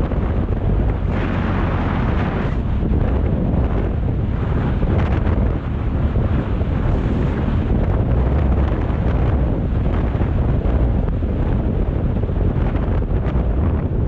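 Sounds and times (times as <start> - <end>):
motorcycle engine rumble: 0.0 - 14.0
wind rushing over microphone: 0.0 - 14.0.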